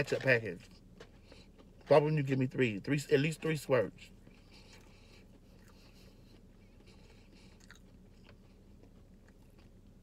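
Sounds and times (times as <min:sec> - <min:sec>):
faint chewing: 0:00.0 - 0:02.6, 0:03.2 - 0:10.0.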